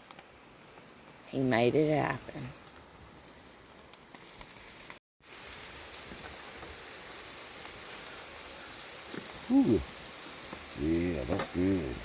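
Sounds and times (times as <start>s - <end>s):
sausage sizzling on foil: 0.0s - 12.0s.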